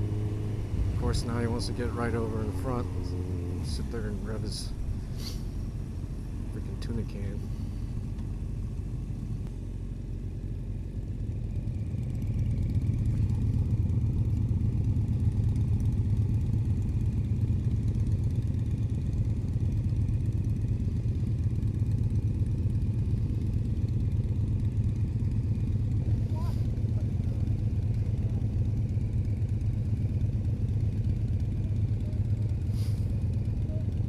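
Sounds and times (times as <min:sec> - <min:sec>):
motorcycle engine rumble: 0:00.0 - 0:34.0.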